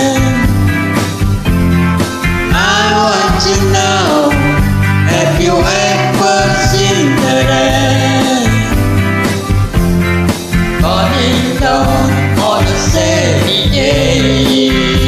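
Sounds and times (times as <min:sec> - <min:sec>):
country-rock band music: 0:00.0 - 0:15.0.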